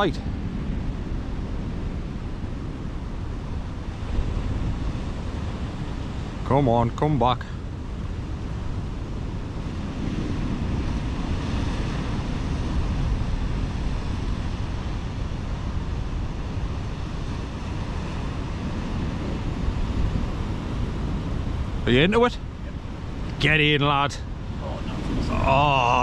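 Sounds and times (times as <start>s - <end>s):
sea surf on rocks: 0.0s - 26.0s
wind buffeting microphone: 0.0s - 26.0s.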